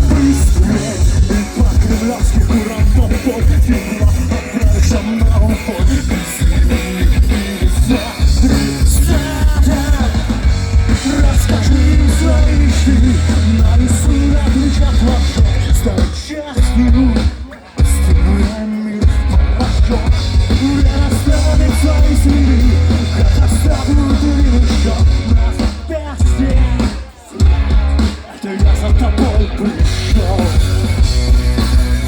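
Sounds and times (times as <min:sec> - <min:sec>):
loud rock band music: 0:00.0 - 0:32.0.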